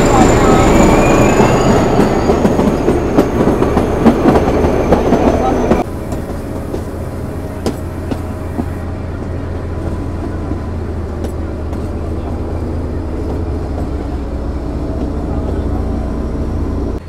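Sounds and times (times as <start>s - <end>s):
diesel locomotive engine idling: 0.0s - 17.0s.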